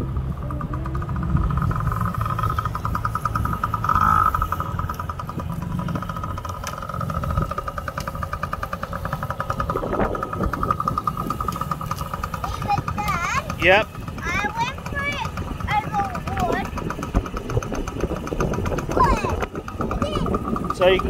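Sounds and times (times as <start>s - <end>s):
small dirt bike engines buzzing: 0.0s - 21.0s.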